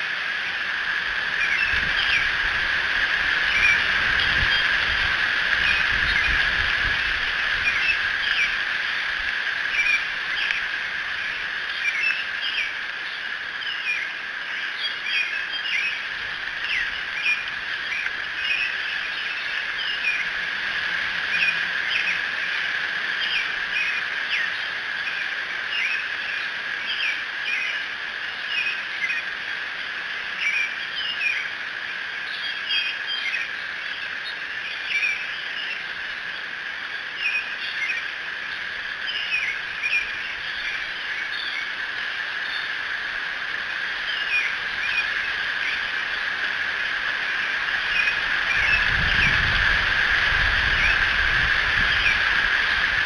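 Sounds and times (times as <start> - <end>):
songbirds chirping: 0.0 - 53.0
steady high drone: 0.0 - 53.0.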